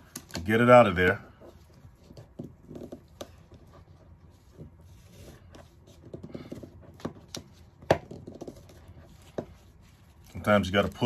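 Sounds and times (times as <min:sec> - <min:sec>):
strap rustling: 0:00.0 - 0:11.0.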